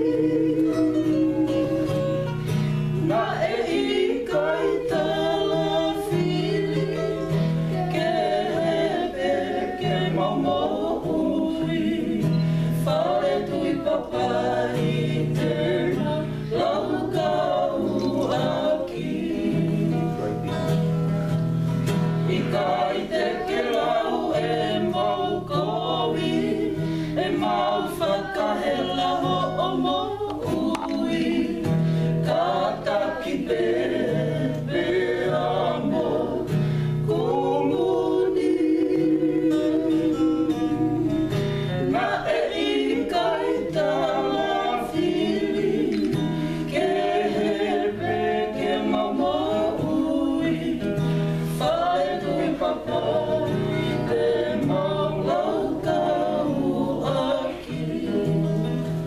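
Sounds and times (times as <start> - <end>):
group singing in harmony: 0.0 - 59.0
strummed acoustic guitar: 0.0 - 59.0
ukulele: 0.0 - 59.0.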